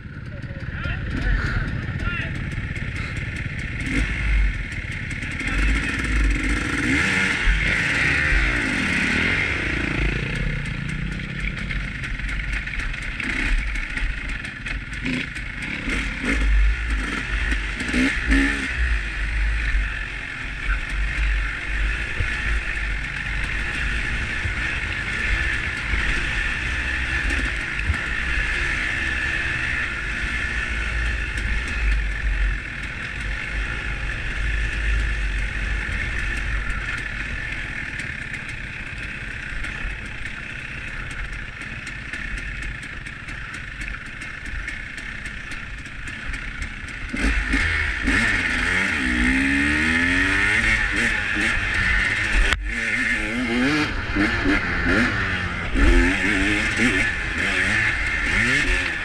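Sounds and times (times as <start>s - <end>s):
dirt bike engine revving: 0.0s - 59.0s
other dirt bikes: 0.0s - 59.0s.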